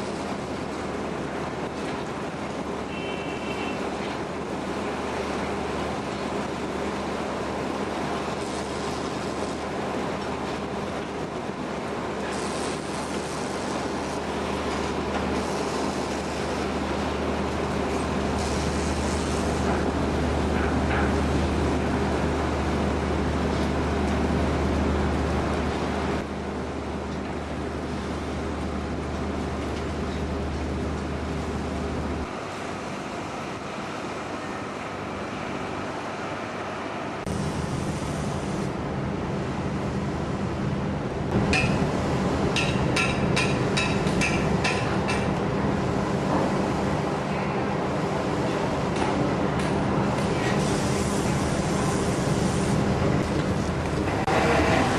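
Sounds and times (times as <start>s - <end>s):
machinery engine droning with hiss: 0.0s - 54.9s.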